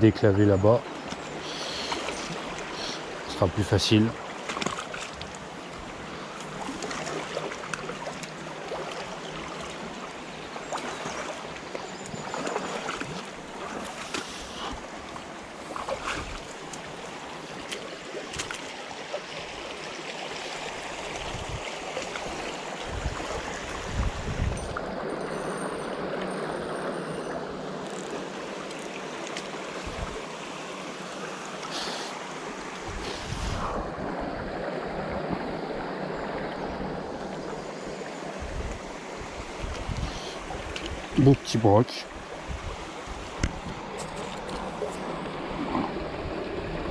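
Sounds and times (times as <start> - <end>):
river water rushing: 0.8 - 46.9.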